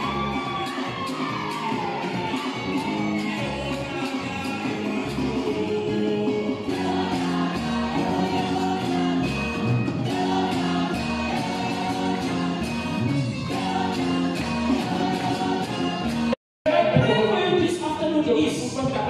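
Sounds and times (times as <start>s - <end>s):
bass guitar: 0.0s - 16.4s
group singing gospel song: 0.0s - 16.4s.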